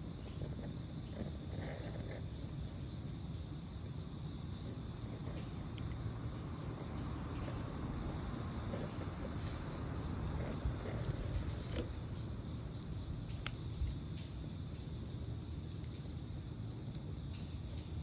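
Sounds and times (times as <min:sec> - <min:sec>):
campfire burning: 0:00.0 - 0:18.0
fire crackles and pops: 0:00.0 - 0:18.0.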